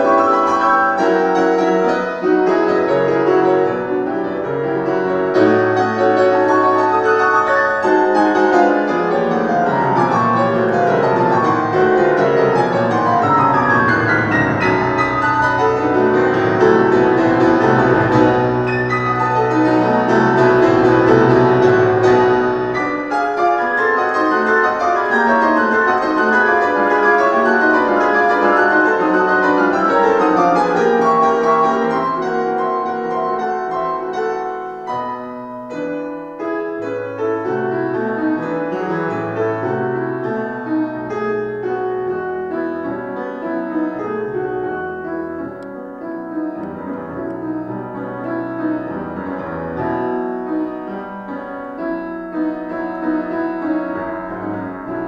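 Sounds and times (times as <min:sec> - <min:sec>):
solo classical piano: 0:00.0 - 0:55.0.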